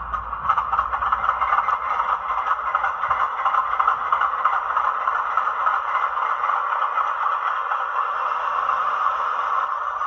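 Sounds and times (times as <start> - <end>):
model locomotive engine idle: 0.0 - 10.0.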